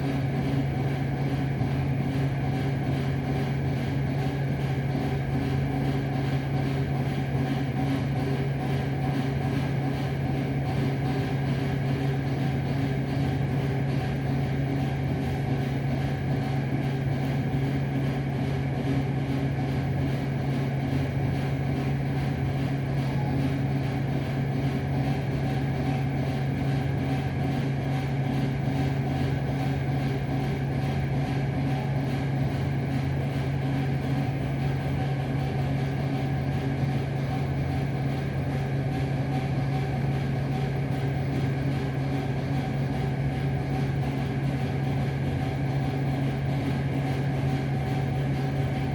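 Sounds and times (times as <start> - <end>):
low mechanical hum: 0.0 - 48.9.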